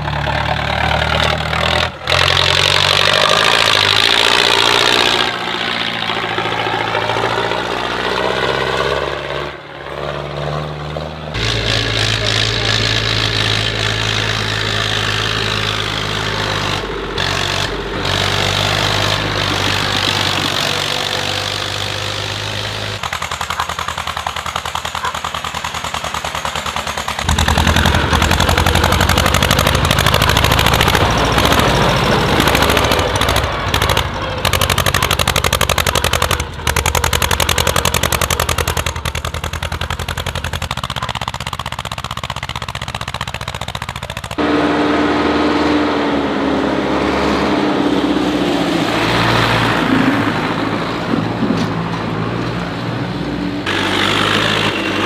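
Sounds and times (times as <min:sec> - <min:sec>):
tractor engines running hard: 0:00.0 - 0:55.0.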